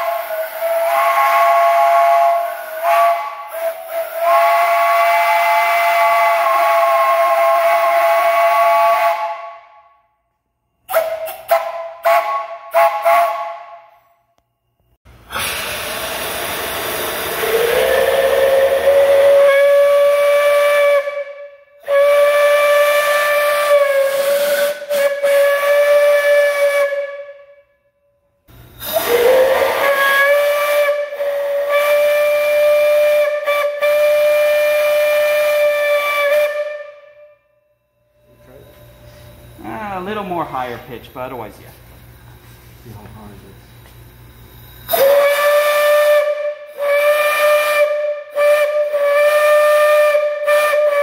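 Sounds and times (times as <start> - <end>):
steam hissing: 0.0 - 9.2, 15.1 - 21.1, 21.8 - 26.8, 28.5 - 36.6, 38.3 - 51.0
three-chime steam whistle toots: 0.0 - 10.1, 10.8 - 14.2, 15.3 - 27.8, 28.5 - 39.6, 44.2 - 51.0
single-chime steam whistle blasts: 0.0 - 10.2, 10.8 - 14.3, 15.4 - 27.8, 28.8 - 39.6, 44.2 - 51.0.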